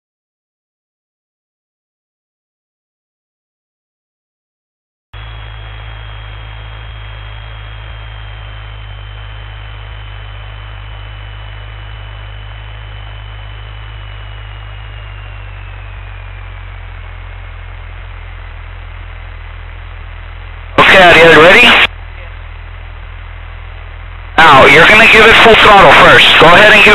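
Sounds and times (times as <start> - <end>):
faint high whine: 5.2 - 26.9
small plane engine drone: 5.2 - 26.9.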